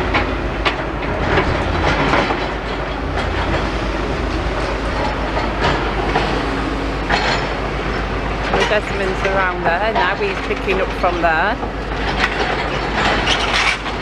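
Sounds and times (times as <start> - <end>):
excavator engine drone: 0.0 - 14.0.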